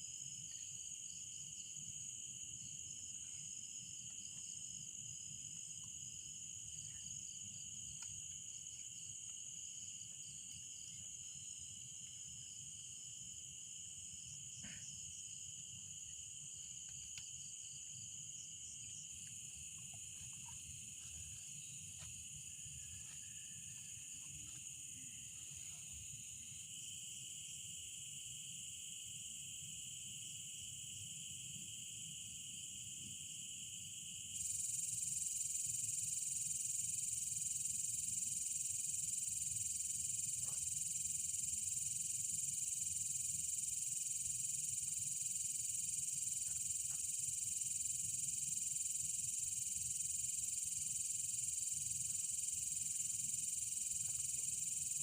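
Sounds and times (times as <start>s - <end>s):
forest insects chirring: 0.0s - 55.0s.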